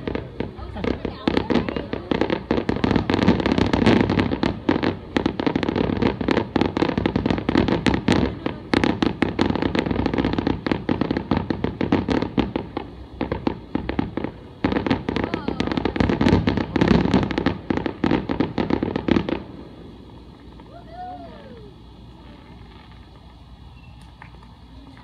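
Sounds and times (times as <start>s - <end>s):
continuous rumble: 0.0s - 25.0s
fireworks bangs and crackles: 0.0s - 25.0s.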